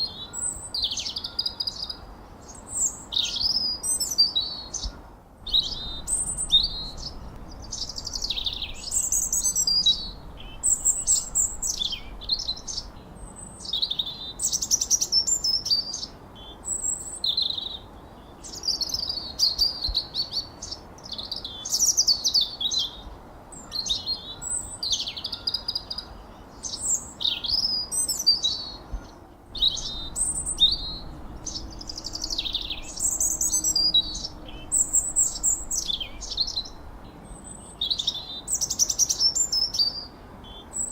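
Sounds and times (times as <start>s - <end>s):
faint background hiss: 0.0s - 40.9s
songbirds chirping and whistling: 0.0s - 40.9s.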